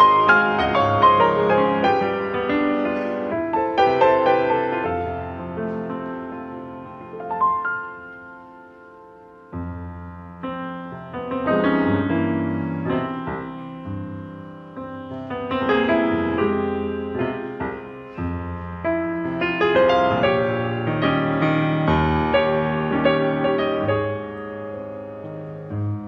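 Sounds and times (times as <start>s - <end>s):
classical piano piece: 0.0s - 26.0s.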